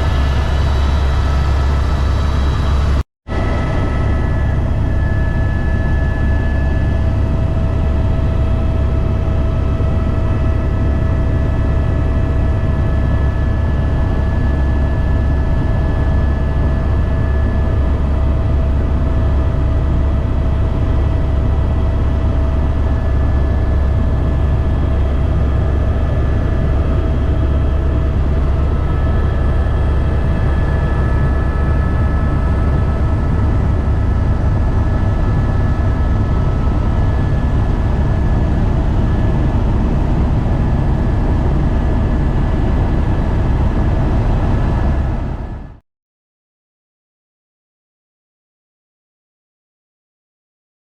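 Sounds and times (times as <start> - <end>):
helicopter rotor and engine rumble: 0.0 - 45.8
high whine: 0.0 - 45.8.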